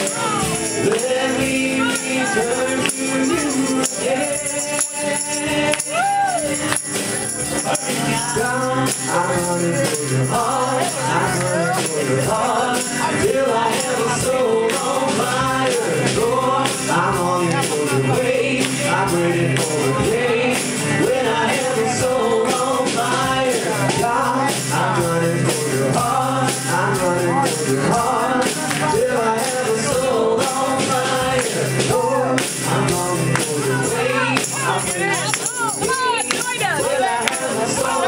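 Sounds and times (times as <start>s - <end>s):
acoustic guitar: 0.0s - 38.0s
drum kit: 0.0s - 38.0s
people singing: 0.0s - 38.0s.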